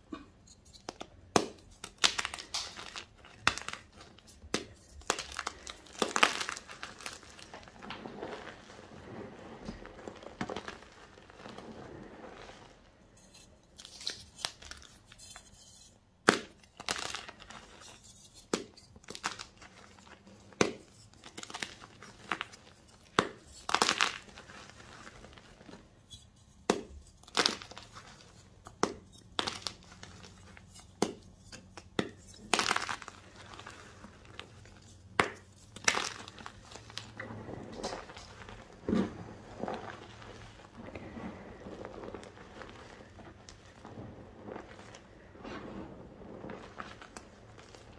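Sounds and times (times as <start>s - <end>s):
chalk blocks crunching: 0.5s - 47.9s
hands rustling in chalk powder: 1.8s - 15.9s, 16.7s - 47.9s.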